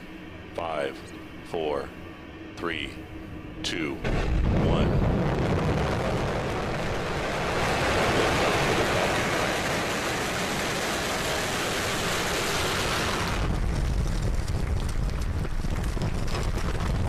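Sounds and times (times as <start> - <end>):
rocket engines roaring: 0.0 - 17.0.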